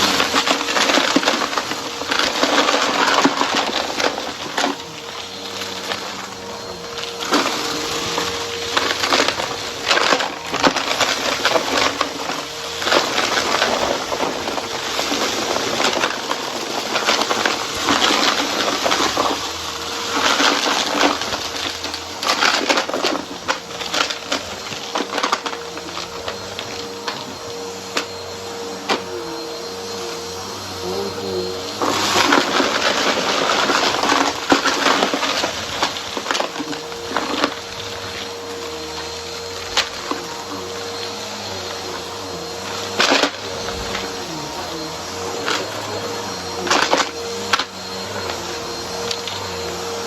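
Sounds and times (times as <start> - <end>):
debris crunching in vacuum: 0.0 - 50.0
vacuum cleaner motor hum: 0.0 - 50.0.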